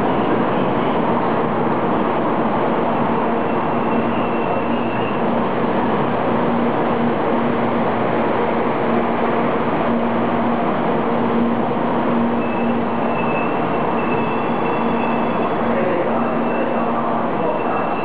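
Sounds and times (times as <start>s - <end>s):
train rolling slowly: 0.0s - 18.0s.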